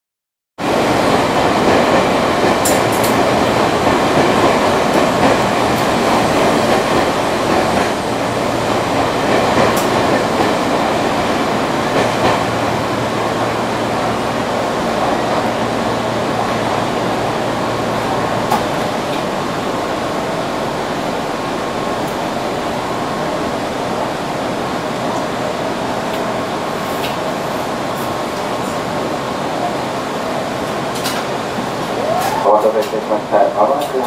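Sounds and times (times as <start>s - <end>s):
electric train rumbling past: 0.6s - 34.0s.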